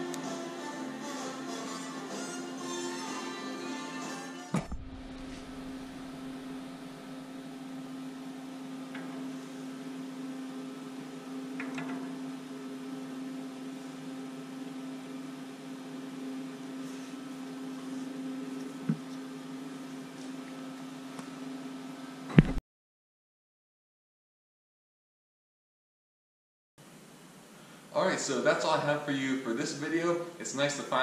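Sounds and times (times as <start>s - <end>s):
low electrical hum: 0.0s - 22.6s, 26.8s - 31.0s.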